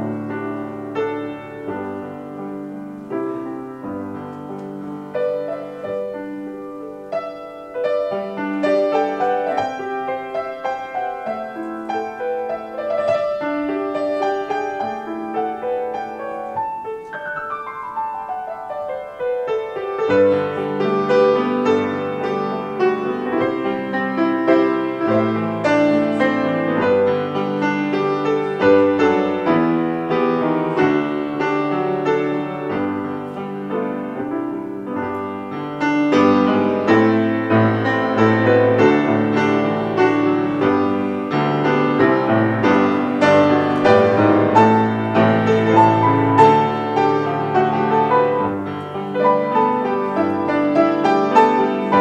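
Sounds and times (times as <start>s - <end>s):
solo grand piano piece: 0.0s - 52.0s.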